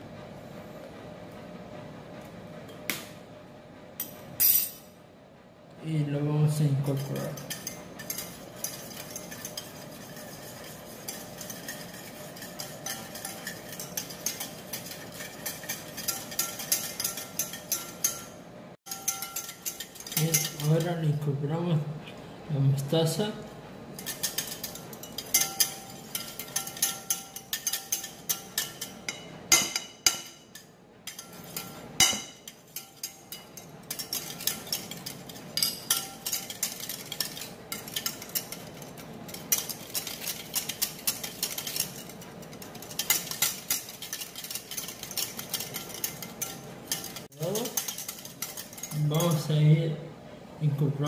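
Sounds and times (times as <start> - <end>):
whisk clicking and scraping bowl: 6.5 - 21.8, 22.8 - 49.6.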